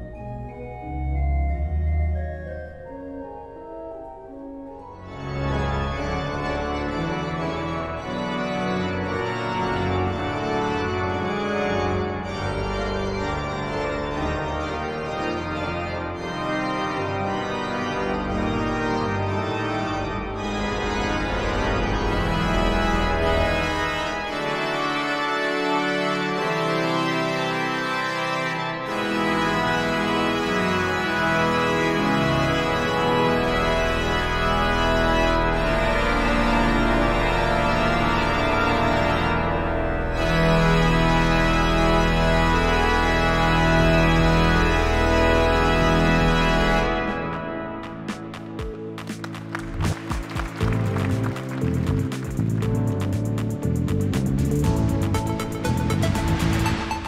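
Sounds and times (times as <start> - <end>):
deep organ pedal bass: 0.0 - 57.0
pipe organ chords: 0.0 - 57.0.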